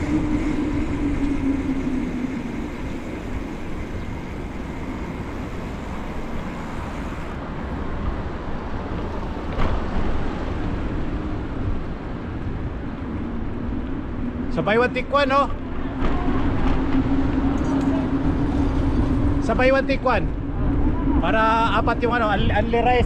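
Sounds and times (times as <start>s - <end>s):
wind rumbling on microphone: 0.0s - 14.8s, 15.4s - 23.0s
motor traffic hum: 0.0s - 23.0s
steady engine-like hum: 0.0s - 23.0s.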